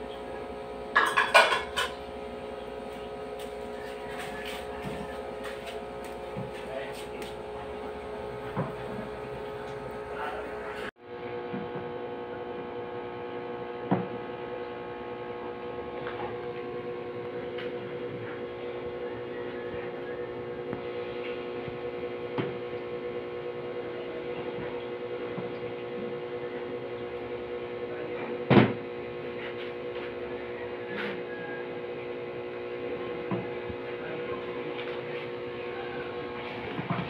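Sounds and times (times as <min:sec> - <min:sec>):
steady hum of held tones: 0:00.0 - 0:37.0.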